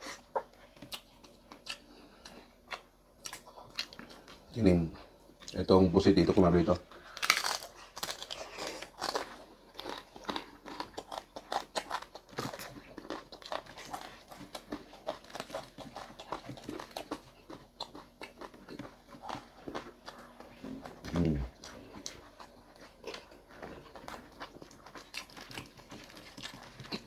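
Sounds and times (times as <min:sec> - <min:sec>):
people crunching and chewing: 0:00.0 - 0:27.0.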